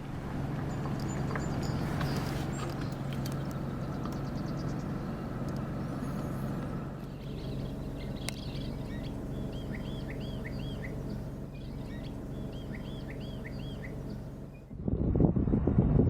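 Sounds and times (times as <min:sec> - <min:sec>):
songbird singing: 0:00.0 - 0:15.1
steady low hum: 0:00.0 - 0:16.0.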